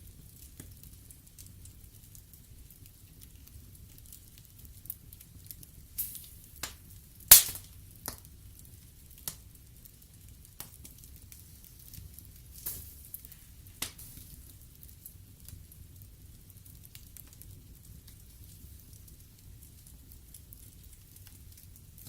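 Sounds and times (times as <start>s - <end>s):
logs crackling and popping in fire: 0.0s - 22.0s.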